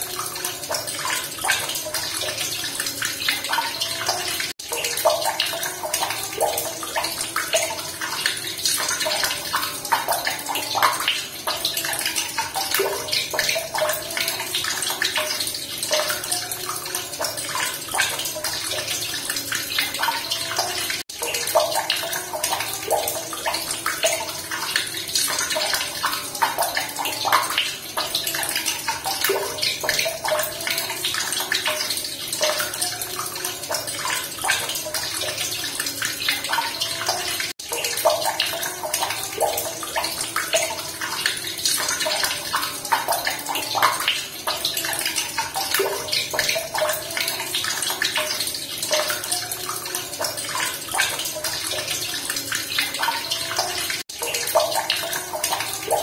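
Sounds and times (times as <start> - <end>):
running water splashing: 0.0 - 56.0.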